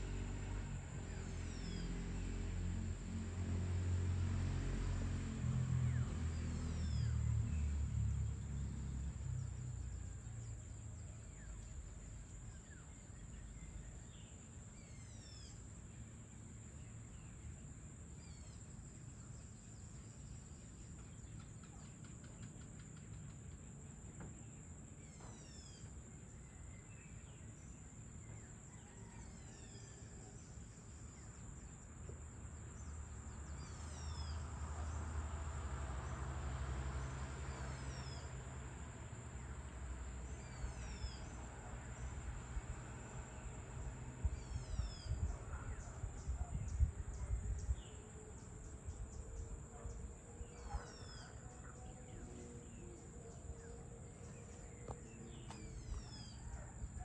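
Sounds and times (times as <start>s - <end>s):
insect drone: 0.0s - 57.0s.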